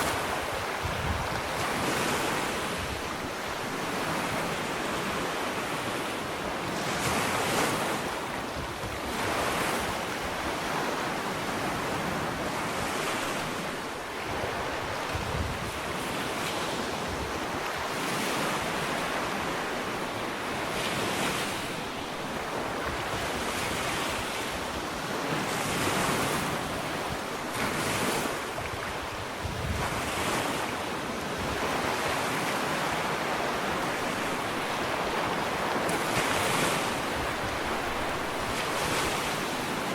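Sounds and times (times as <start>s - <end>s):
ocean waves lapping on shore: 0.0s - 39.9s.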